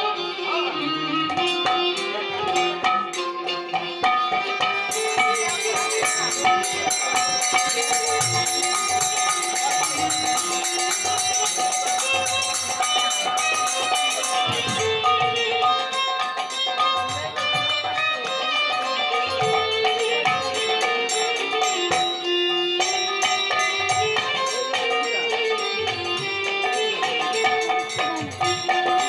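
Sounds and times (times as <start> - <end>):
metallic jingle of hand cymbals: 1.3 - 29.0.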